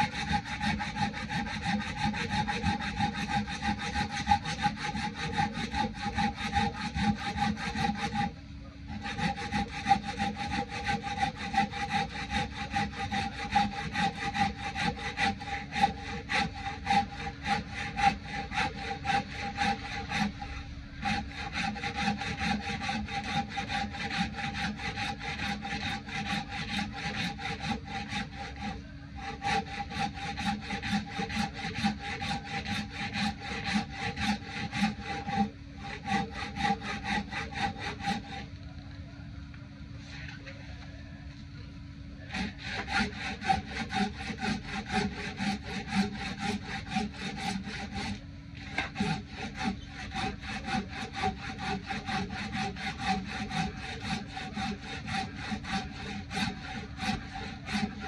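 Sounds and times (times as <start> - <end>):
hand saw cutting log: 0.0 - 38.6, 42.2 - 58.0.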